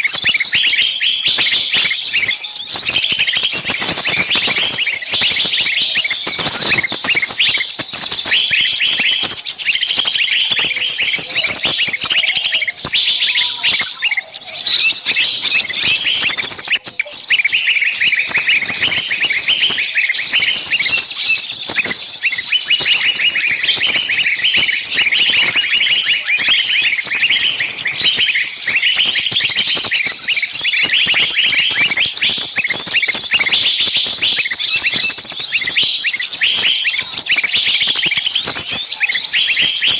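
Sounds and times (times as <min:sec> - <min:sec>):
small songbirds screaming: 0:00.0 - 0:39.9.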